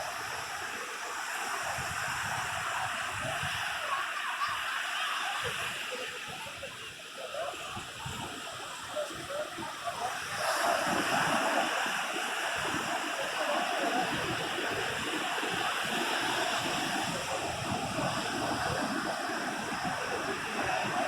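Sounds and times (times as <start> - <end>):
sea surf washing onto beach: 0.0 - 21.0.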